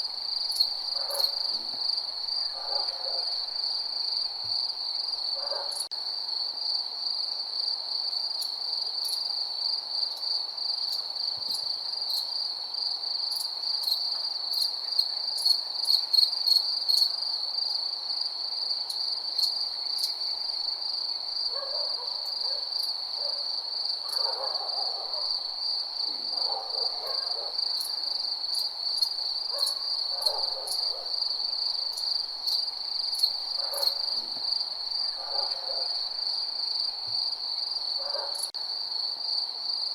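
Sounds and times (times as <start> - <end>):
lower insect calls: 0.1 - 5.9, 8.1 - 38.6
crickets trilling: 0.1 - 39.9.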